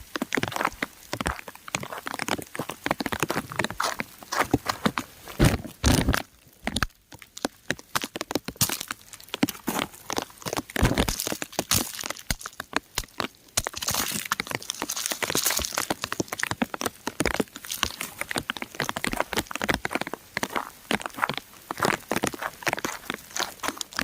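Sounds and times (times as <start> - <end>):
raindrops pattering on rock: 0.0 - 24.0.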